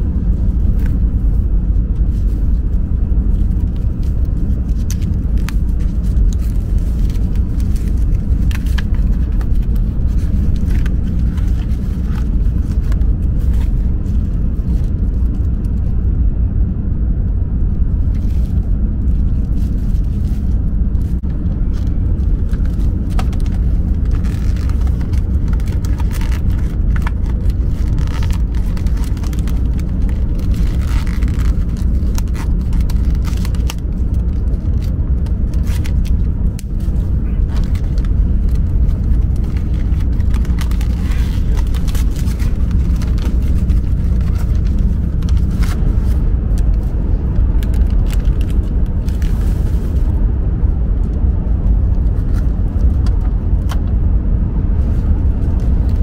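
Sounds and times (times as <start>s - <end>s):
train cabin low rumble: 0.0s - 56.0s
plastic wrap crinkling: 0.3s - 15.8s, 18.0s - 50.2s.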